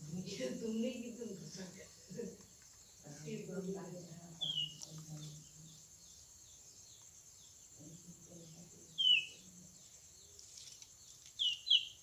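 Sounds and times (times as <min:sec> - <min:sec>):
bird chirp: 0:00.0 - 0:12.0
insects chirring: 0:00.0 - 0:12.0.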